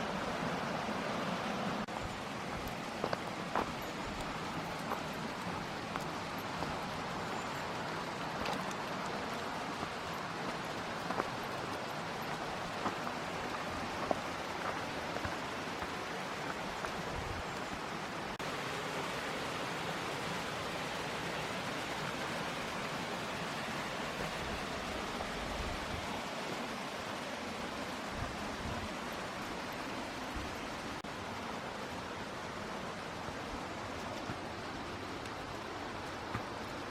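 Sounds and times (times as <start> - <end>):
falling water rushing: 0.0 - 36.9.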